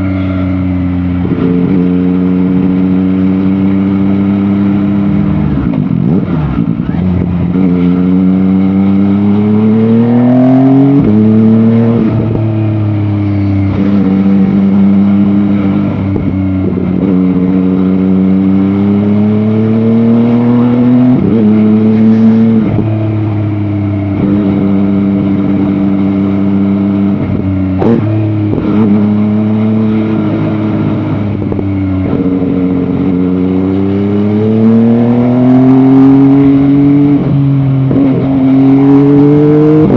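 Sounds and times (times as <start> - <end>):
motorcycle engine accelerating through gears: 0.0 - 39.9.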